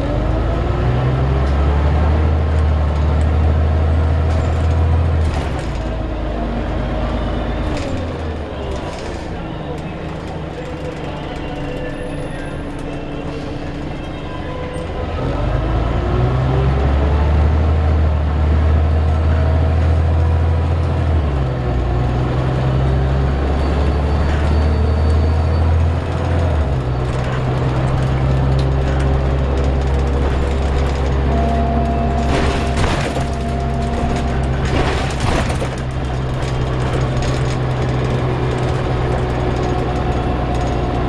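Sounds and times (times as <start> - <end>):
bus diesel engine accelerating: 0.0 - 41.0.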